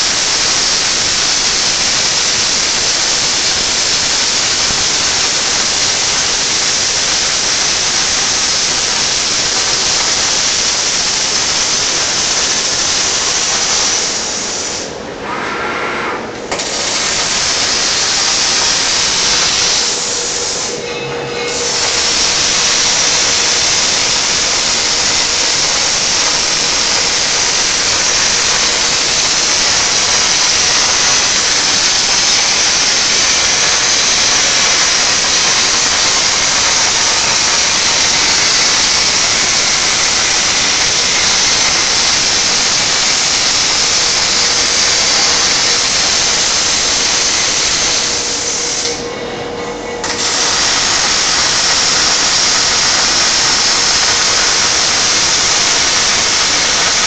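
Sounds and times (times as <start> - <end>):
welding arc sizzling: 0.0 - 15.0, 16.4 - 49.1, 50.0 - 57.0.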